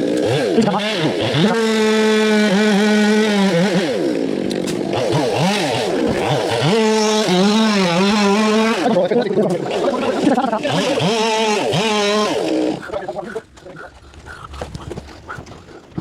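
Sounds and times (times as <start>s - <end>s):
chainsaw engine at high revs: 0.0s - 16.0s.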